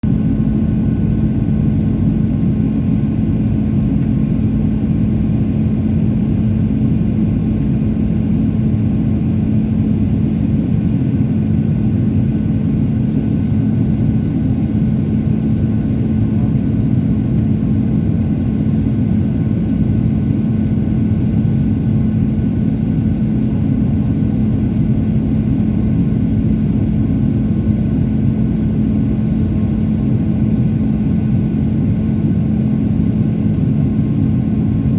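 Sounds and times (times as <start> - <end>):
aircraft engine drone: 0.0 - 34.9.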